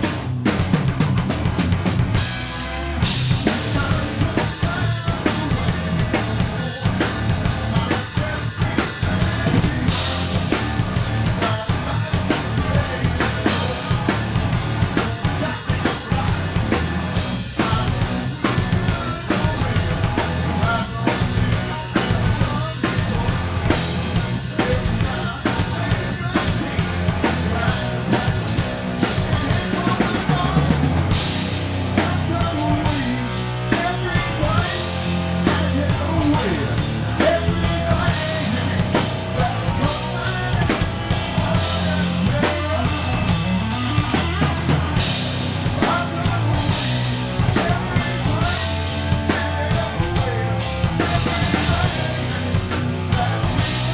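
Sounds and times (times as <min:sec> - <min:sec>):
drum kit: 0:00.0 - 0:53.9
live rock band: 0:00.0 - 0:53.9.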